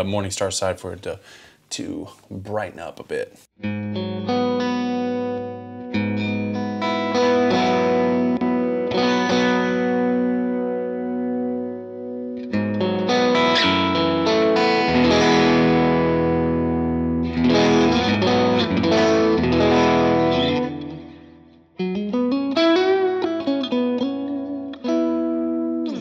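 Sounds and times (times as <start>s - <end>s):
overdriven electric guitar chords: 3.6s - 26.0s
picked electric guitar notes: 3.6s - 26.0s.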